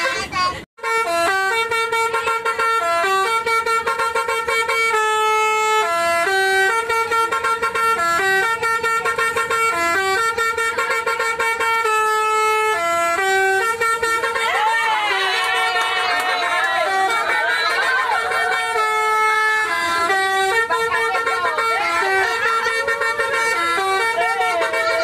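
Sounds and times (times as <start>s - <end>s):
multi-tone air horn playing tune: 0.0s - 25.0s.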